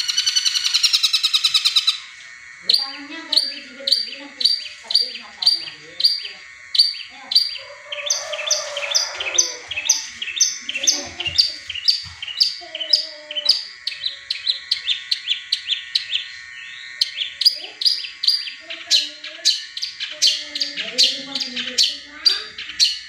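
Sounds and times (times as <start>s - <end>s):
bird singing sharp repeated notes: 0.0s - 23.0s.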